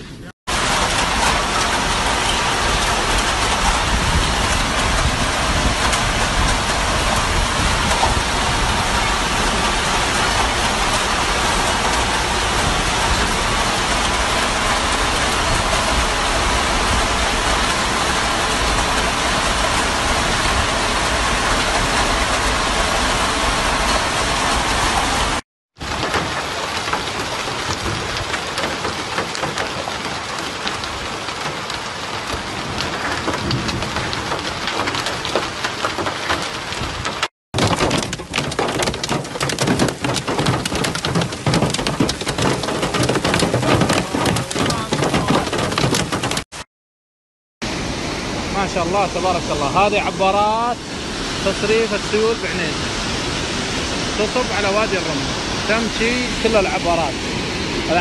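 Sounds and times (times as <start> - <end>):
heavy rain hissing: 0.0 - 46.4, 47.6 - 58.0
rain pattering on a car: 0.5 - 46.6, 51.4 - 57.2.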